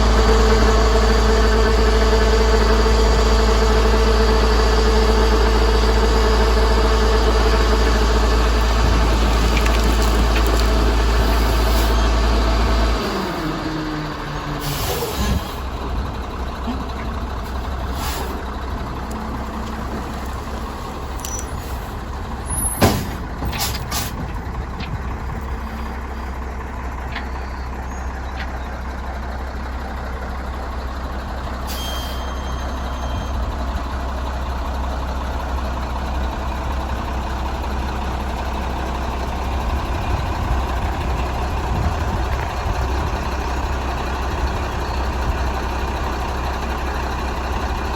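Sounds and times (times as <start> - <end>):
diesel truck engine rumble: 0.0 - 47.9.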